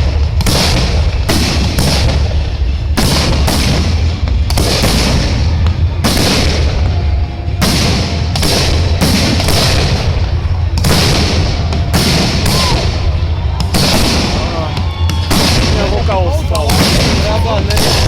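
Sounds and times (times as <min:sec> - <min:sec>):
firework bursts crackling: 0:00.0 - 0:18.0
low rumble: 0:00.0 - 0:18.0.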